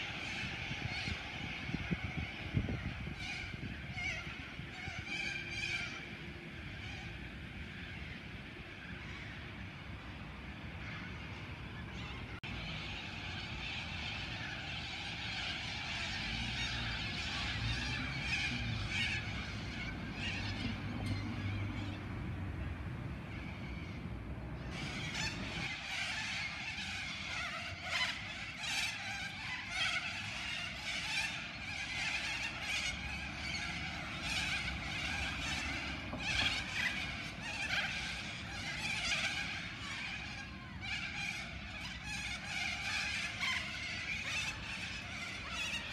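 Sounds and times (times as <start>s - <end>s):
flock of birds screeching: 0.0s - 45.9s.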